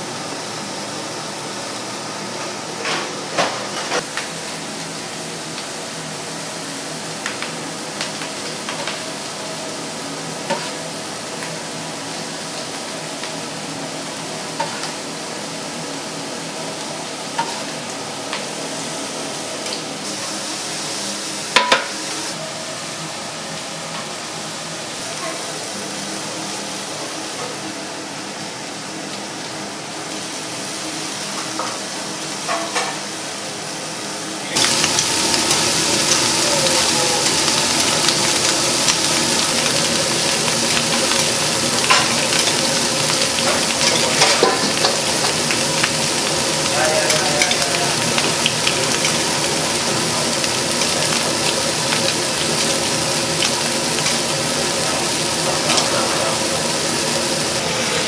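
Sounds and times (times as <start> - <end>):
burger patties sizzling: 3.6 - 27.7, 34.4 - 58.0.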